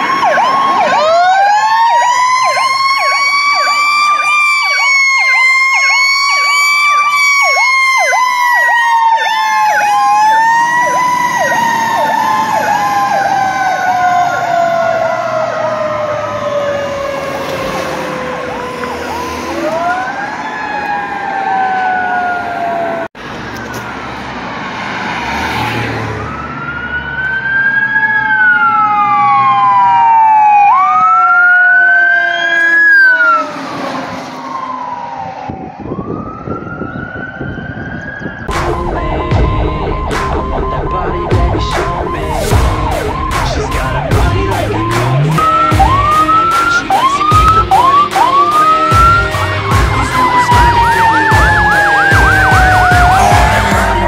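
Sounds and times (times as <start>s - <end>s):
rapid yelp siren: 0.0s - 24.1s, 25.5s - 54.0s
wailing siren: 0.0s - 54.0s.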